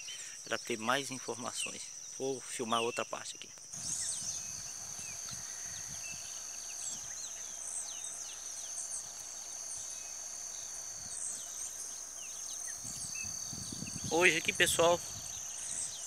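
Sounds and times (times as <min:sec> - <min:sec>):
high-pitched insect trill: 0:00.0 - 0:16.0
lower insect trill: 0:00.0 - 0:16.0.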